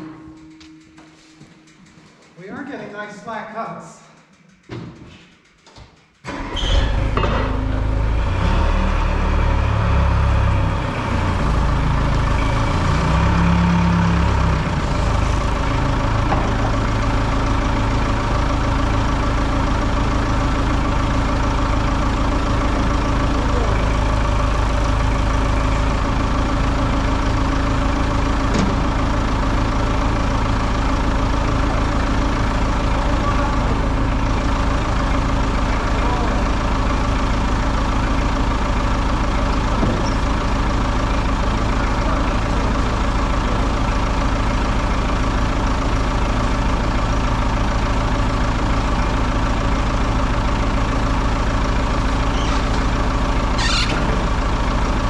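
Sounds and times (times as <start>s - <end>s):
sawmill engine running: 6.2s - 55.0s.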